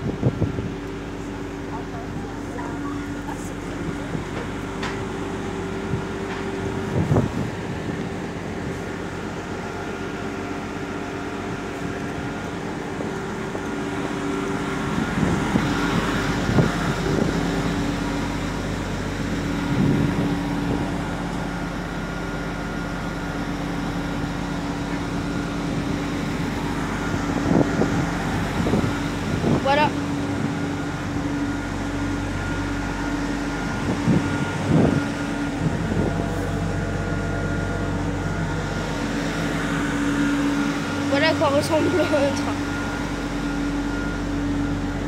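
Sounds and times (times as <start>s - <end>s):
train equipment humming: 0.0s - 45.0s.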